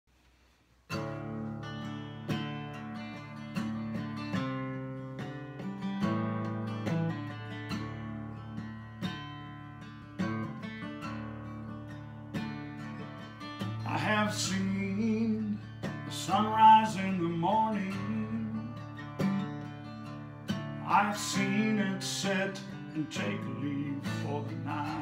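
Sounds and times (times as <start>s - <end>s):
acoustic guitar playing: 0.8s - 25.0s.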